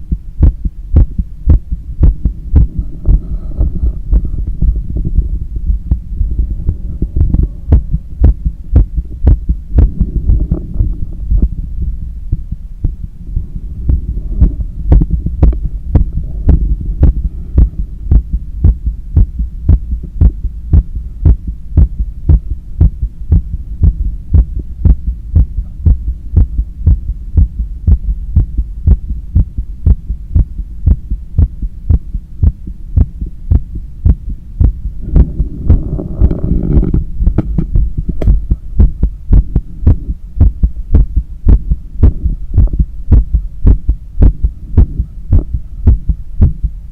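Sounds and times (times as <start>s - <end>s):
heartbeat through stethoscope: 0.0s - 46.8s
continuous low rumble: 0.0s - 46.9s.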